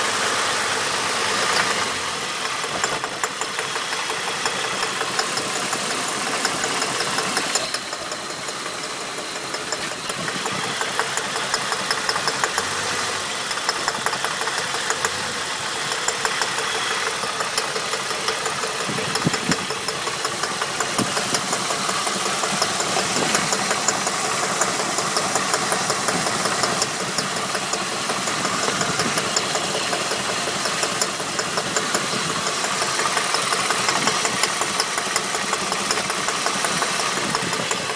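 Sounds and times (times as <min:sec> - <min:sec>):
car engine running: 0:00.0 - 0:37.9
fast regular knocking rattle: 0:01.4 - 0:37.9.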